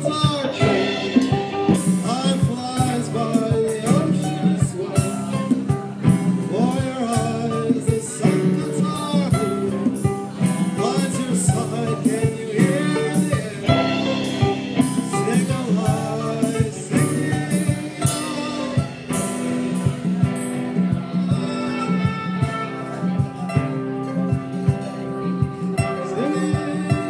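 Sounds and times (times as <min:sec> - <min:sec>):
acoustic guitar: 0:00.0 - 0:27.0
drum kit beat: 0:00.0 - 0:27.0
person singing: 0:00.0 - 0:27.0.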